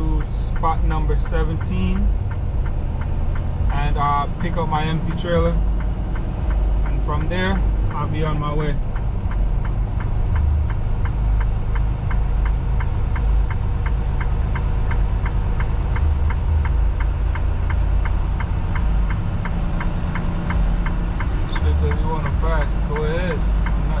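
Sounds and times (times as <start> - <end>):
diesel truck engine running: 0.0 - 24.0
turn signal relay ticking: 0.0 - 24.0.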